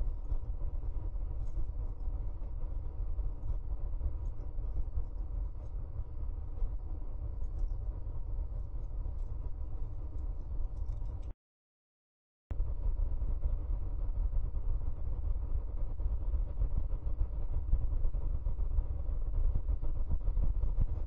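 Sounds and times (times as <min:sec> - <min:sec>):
faint steady hum: 0:00.0 - 0:11.3, 0:12.5 - 0:21.0
low rumble: 0:00.0 - 0:11.3, 0:12.5 - 0:21.0.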